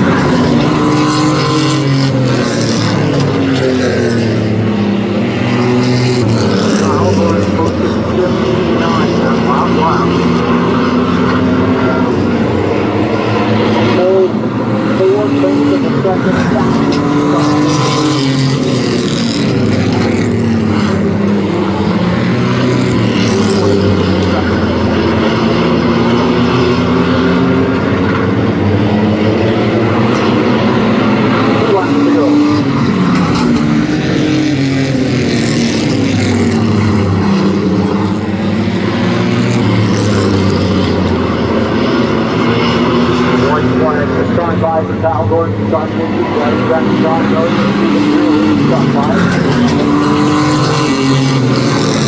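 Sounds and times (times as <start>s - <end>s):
racing truck engines: 0.0s - 52.0s.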